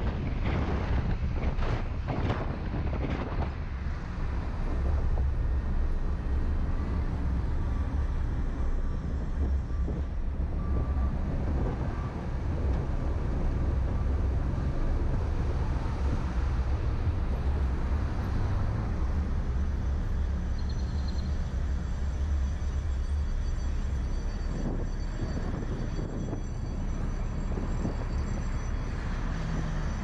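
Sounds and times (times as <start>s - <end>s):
car driving rumble: 0.0s - 30.0s.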